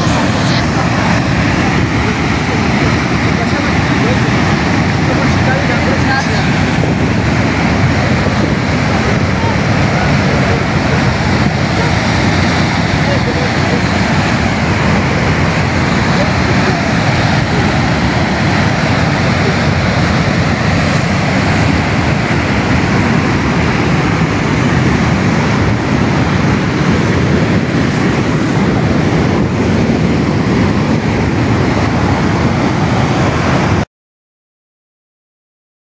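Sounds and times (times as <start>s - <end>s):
flood water rushing over rocks: 0.0s - 33.8s.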